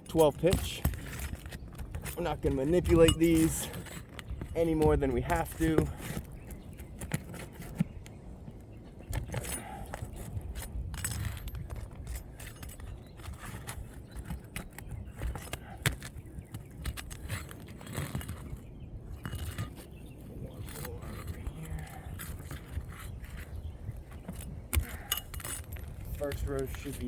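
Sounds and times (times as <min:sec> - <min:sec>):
metal tools clicking and scraping: 0:00.0 - 0:06.3, 0:09.1 - 0:27.0.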